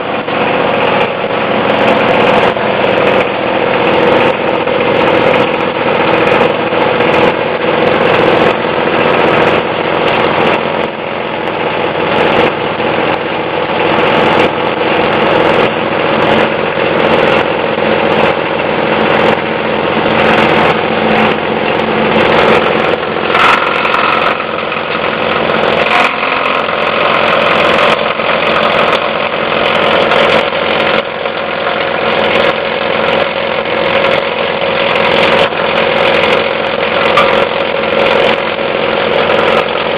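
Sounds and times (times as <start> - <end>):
plastic cracking in shredder: 0.0 - 39.9
shredder motor hum: 0.0 - 39.9.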